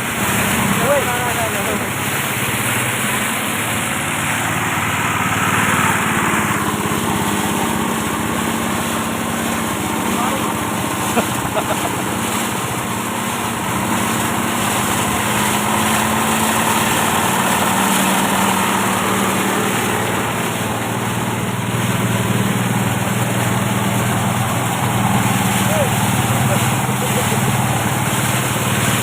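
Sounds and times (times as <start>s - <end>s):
engine-powered rice thresher running: 0.0s - 29.0s.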